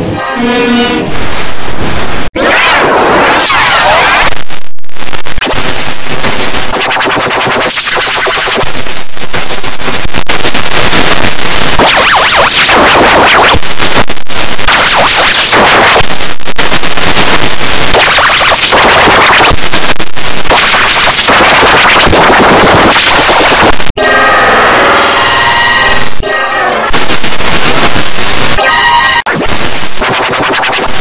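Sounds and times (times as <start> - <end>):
harsh distorted noise: 0.0 - 31.0.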